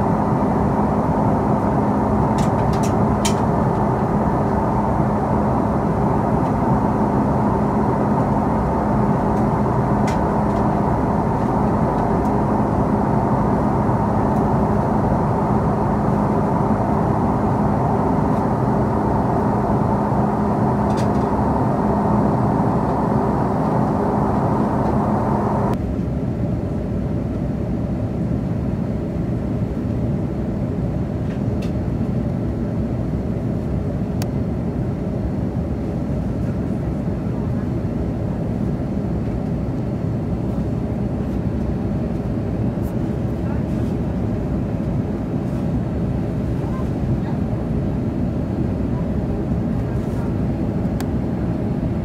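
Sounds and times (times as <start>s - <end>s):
airplane cabin engine noise: 0.0s - 52.0s.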